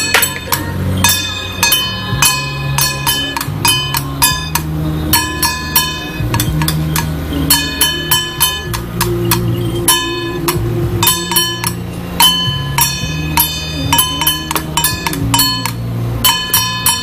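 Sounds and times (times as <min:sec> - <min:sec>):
gongs or cymbals struck rhythmically: 0:00.0 - 0:17.0
low sustained tone: 0:00.0 - 0:17.0.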